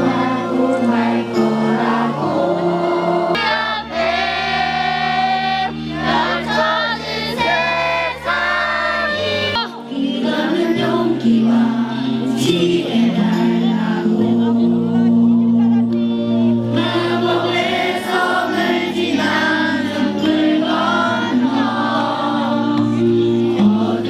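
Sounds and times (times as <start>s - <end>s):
choir singing: 0.0s - 24.0s
sustained musical accompaniment: 0.0s - 24.0s.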